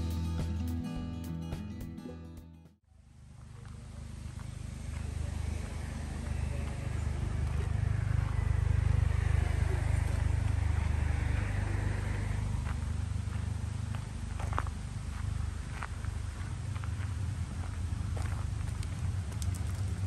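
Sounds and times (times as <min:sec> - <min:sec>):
car passing: 0:03.2 - 0:20.0.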